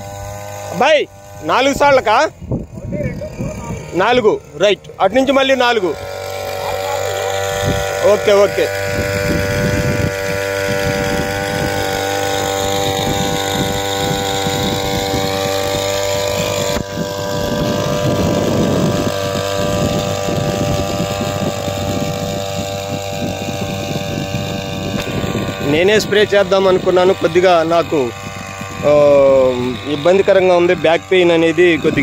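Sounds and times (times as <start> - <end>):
small sprayer engine running: 0.0 - 32.0.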